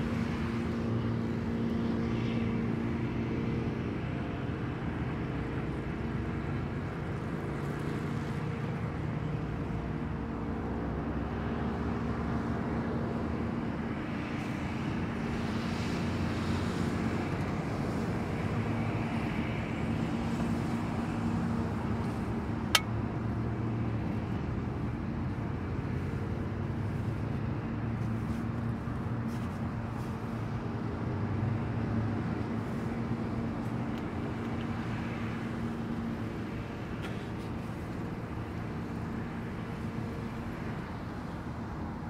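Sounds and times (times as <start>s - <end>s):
highway traffic rumble: 0.0s - 42.0s.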